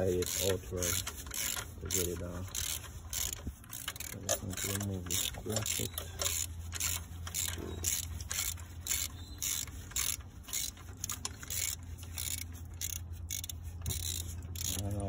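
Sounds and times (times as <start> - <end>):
ratchet wrench clicking: 0.0 - 15.0
steady low hum: 0.0 - 15.0.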